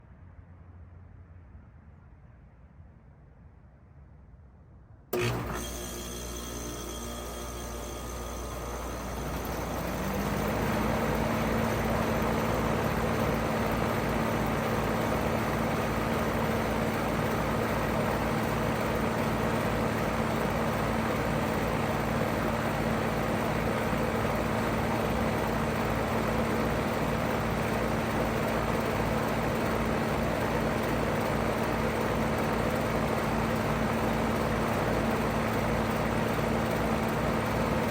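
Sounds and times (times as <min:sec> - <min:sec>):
heat pump humming: 0:05.2 - 0:37.9.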